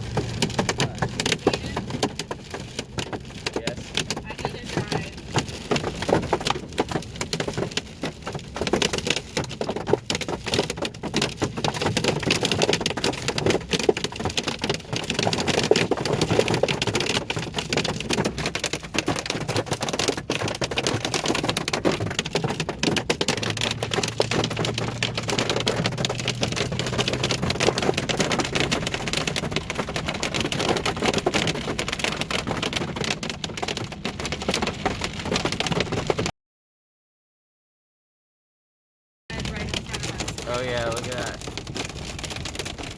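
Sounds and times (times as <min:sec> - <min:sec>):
rain and hail on vehicle roof: 0:00.0 - 0:36.3, 0:39.3 - 0:42.9.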